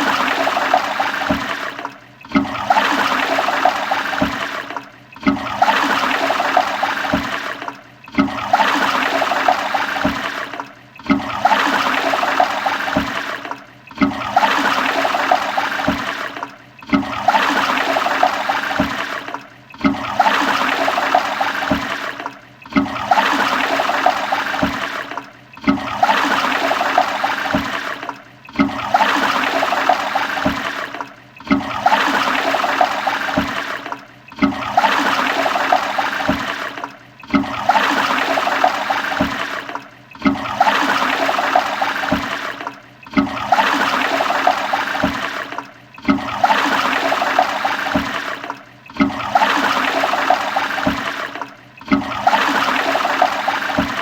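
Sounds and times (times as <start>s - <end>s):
toilet flushing: 0.0s - 54.0s.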